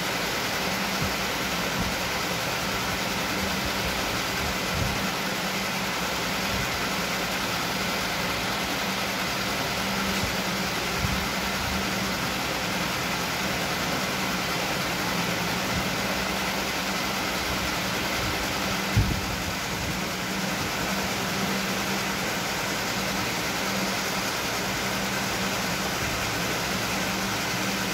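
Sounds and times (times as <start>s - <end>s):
aquarium filter hum and hiss: 0.0s - 27.9s.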